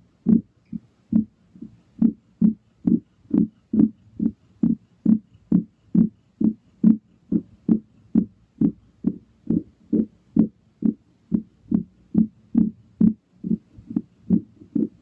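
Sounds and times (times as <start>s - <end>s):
low heartbeat-like thumping: 0.2s - 0.5s, 1.1s - 15.0s.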